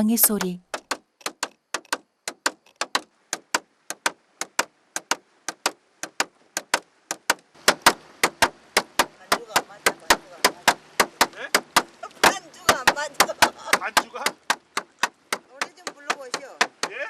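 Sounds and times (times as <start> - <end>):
club pounding on boat: 0.6 - 17.0.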